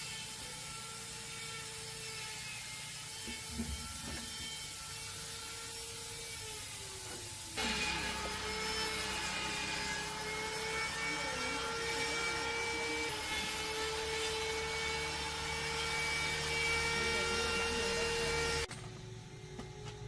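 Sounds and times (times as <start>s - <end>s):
machine whining and hissing: 0.0s - 20.0s.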